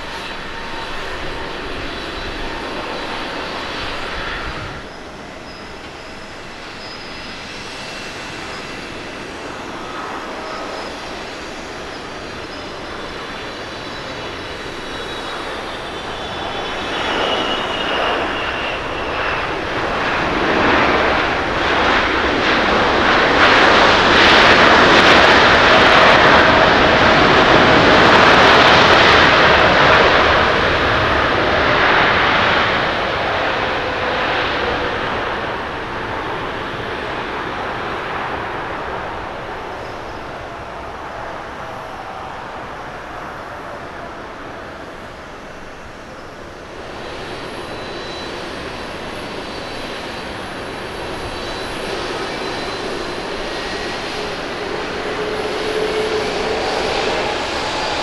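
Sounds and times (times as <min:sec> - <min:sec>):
jet engine roar: 0:00.0 - 0:58.0
jet engine whine: 0:00.0 - 0:58.0.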